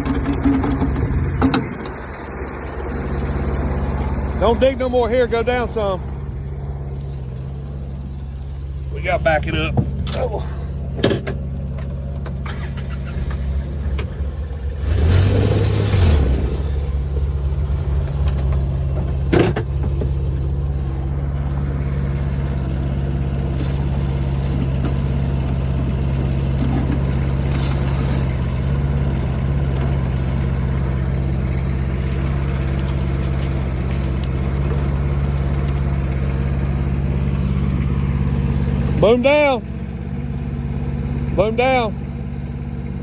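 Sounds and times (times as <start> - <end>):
small excavator engine running: 0.0 - 43.0.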